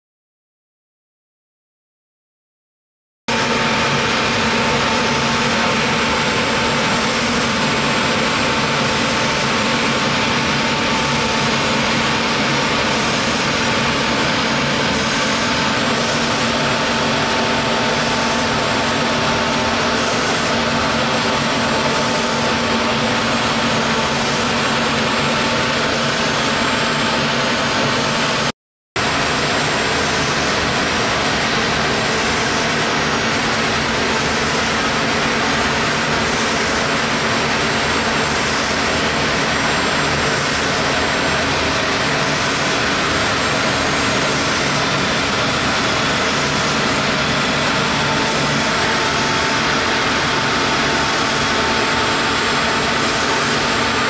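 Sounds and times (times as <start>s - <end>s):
router spindle cutting plastic: 3.3s - 54.0s.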